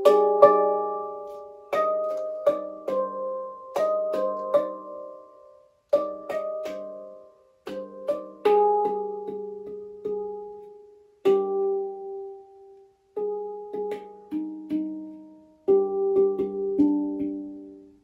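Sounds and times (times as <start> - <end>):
handpan notes ringing: 0.0 - 18.0.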